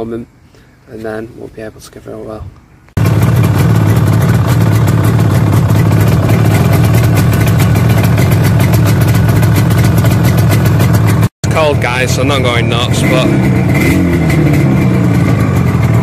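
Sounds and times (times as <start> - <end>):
two-stroke engine idling: 3.0 - 16.0.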